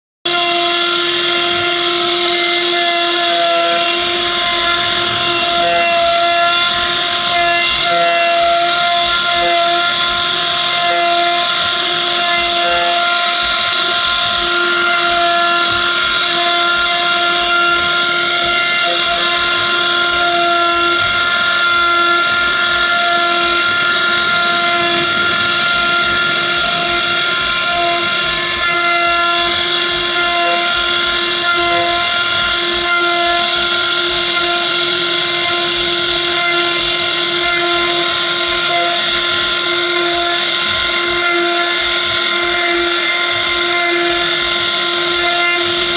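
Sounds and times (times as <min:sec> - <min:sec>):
router spindle high whine: 0:00.3 - 0:45.9
hiss of cutting wood: 0:00.5 - 0:45.9.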